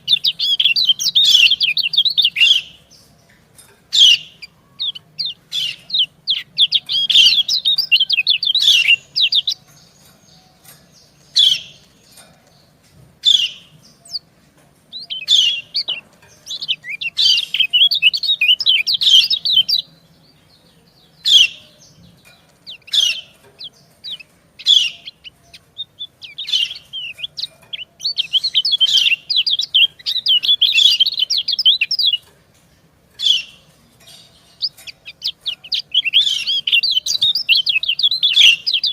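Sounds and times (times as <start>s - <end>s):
rapid high bird twittering: 0.0s - 3.2s, 3.9s - 14.3s, 14.9s - 32.3s, 33.1s - 38.9s.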